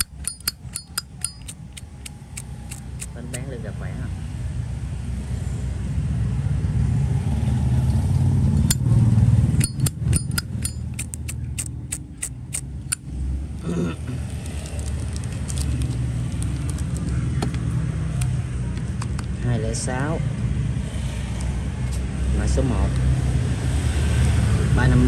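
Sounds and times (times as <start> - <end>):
low rumble like traffic: 0.0 - 25.0.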